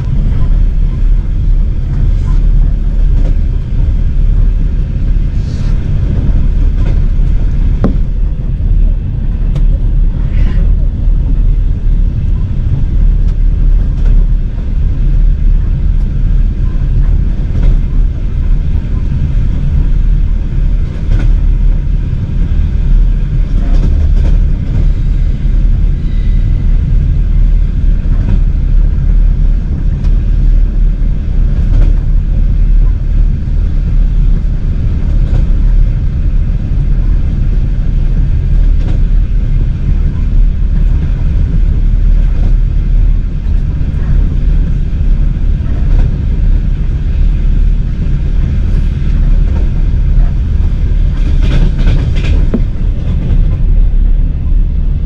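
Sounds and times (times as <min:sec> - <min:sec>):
low rumble of moving vehicle: 0:00.0 - 0:55.0.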